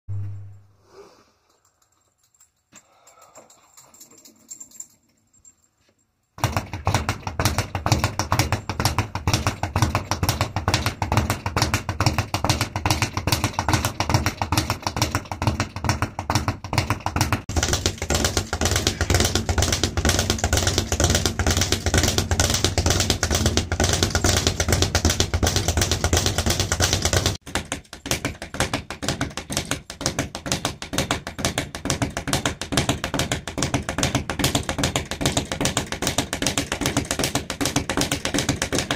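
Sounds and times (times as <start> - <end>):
speed bag rattling knocks: 6.4 - 38.9.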